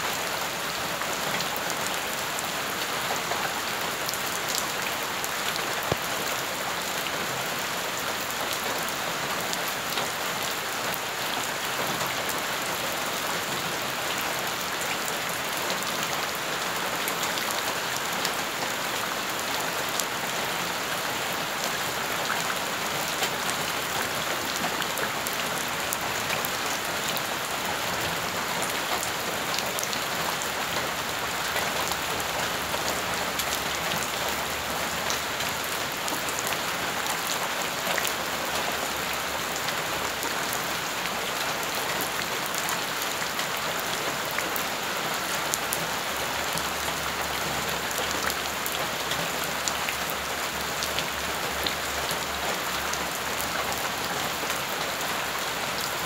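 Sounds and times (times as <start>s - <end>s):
rain splashing on puddles: 0.0s - 56.0s.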